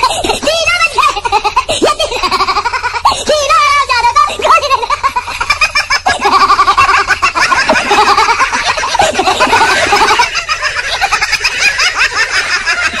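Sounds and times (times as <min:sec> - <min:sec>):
high-pitched laughter: 0:00.0 - 0:13.0.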